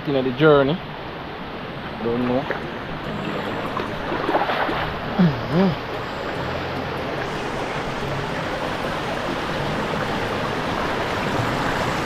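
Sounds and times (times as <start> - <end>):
river stream rushing: 0.0 - 12.0.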